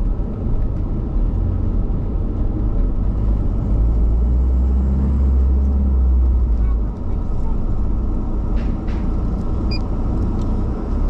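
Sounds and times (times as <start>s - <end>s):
deep engine drone: 0.0s - 11.0s
vehicle engine and road rumble: 0.0s - 11.0s.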